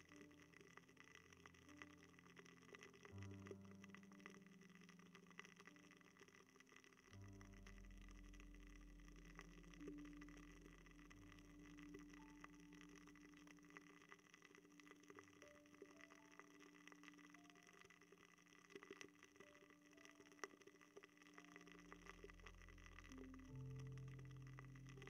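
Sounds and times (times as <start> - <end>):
ear candle crackling: 0.0 - 25.0
soft low hum: 0.0 - 25.0.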